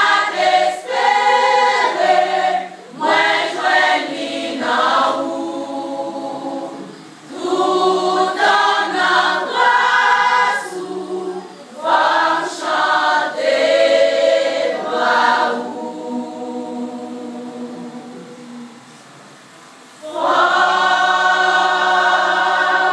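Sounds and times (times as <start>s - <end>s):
women's choir singing: 0.0s - 19.0s, 19.9s - 22.9s.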